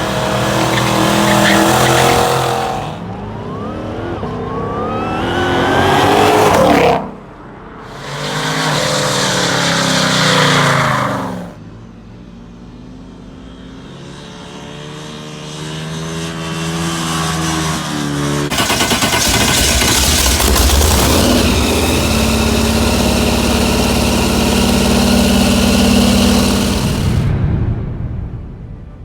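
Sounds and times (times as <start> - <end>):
engine revving hard: 0.0 - 11.6, 14.9 - 27.3.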